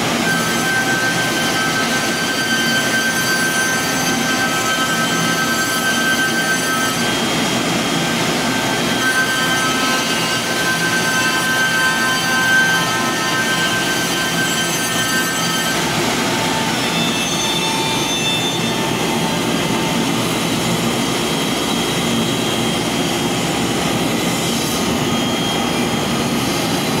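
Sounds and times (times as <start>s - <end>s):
router cutting wood: 0.0s - 27.0s.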